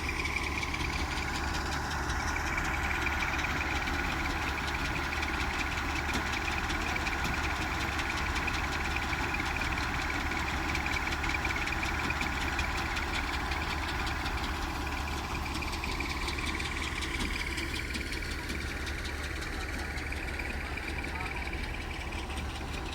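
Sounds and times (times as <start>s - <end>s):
farm machine engine pulsing: 0.0s - 22.9s.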